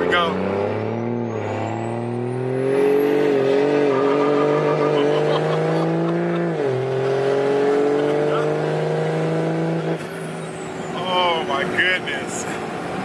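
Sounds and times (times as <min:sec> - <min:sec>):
diesel engine accelerating: 0:00.0 - 0:13.0.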